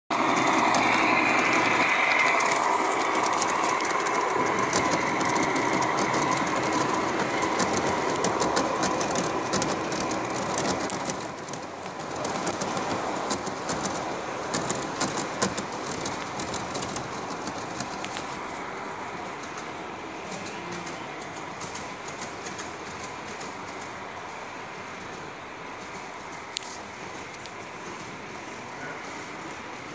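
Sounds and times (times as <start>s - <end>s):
model train rolling on track: 0.1s - 29.9s
wheels clicking over rail joints: 0.1s - 29.9s.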